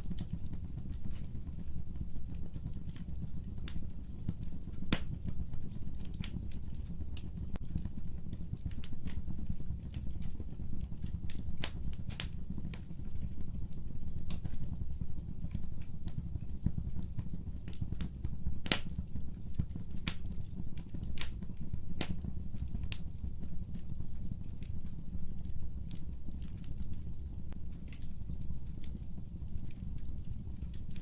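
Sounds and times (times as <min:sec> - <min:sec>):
fire crackles and pops: 0:00.0 - 0:31.0
fire flame rumble: 0:00.0 - 0:31.0.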